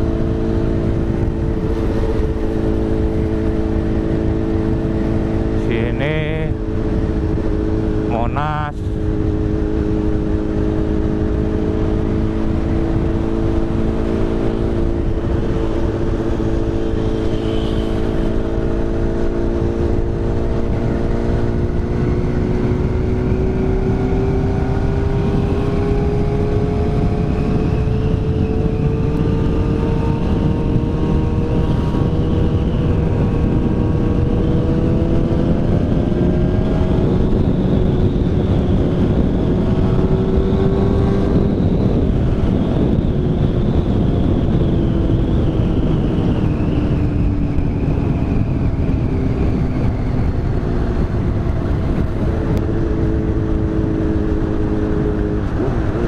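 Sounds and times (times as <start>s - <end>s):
motorcycle engine cruising: 0.0s - 56.0s
wind rush: 0.0s - 56.0s.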